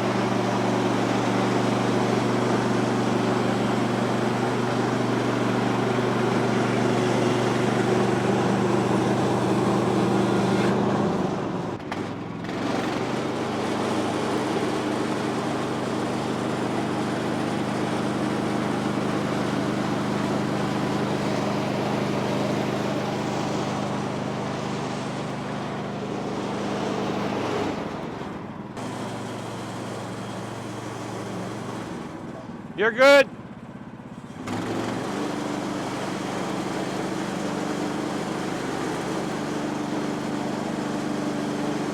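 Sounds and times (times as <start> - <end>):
bandsaw mill sawing log: 0.0 - 10.9, 12.0 - 27.6, 34.3 - 41.9.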